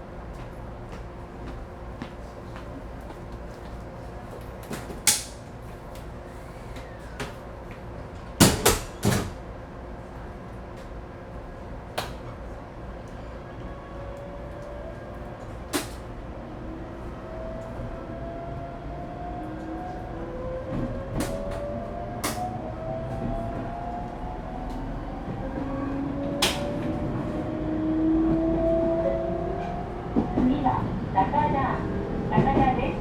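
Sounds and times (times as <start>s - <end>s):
train wheels and motors running: 0.1s - 33.0s.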